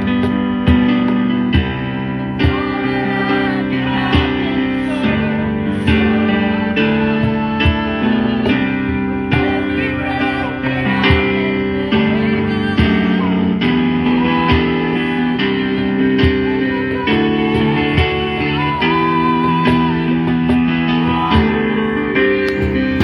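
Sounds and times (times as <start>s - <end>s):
guitar music: 0.0s - 23.0s.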